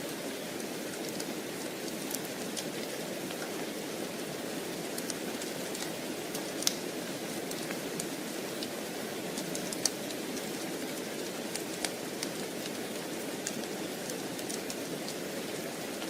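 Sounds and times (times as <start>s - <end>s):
steady rain hiss: 0.0s - 16.0s
wood fire crackling and popping: 0.6s - 3.8s, 4.7s - 16.0s.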